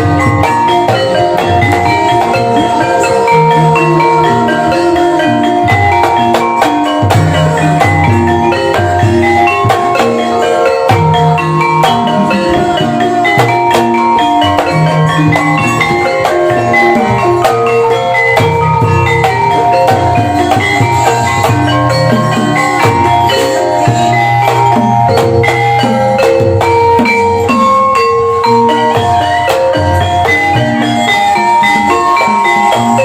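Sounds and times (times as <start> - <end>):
steady drum: 0.0 - 32.9
tuned mallet instruments playing: 0.0 - 33.0.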